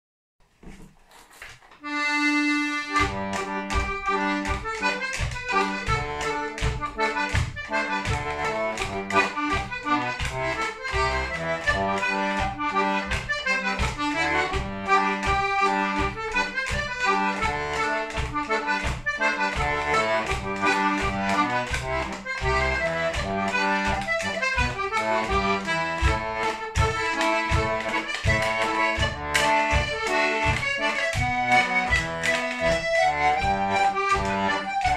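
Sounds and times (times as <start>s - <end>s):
button accordion playing a tune: 1.7s - 34.9s.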